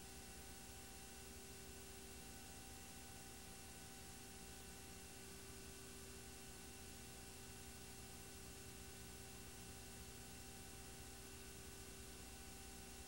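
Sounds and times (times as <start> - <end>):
faint hiss and hum: 0.0 - 13.0.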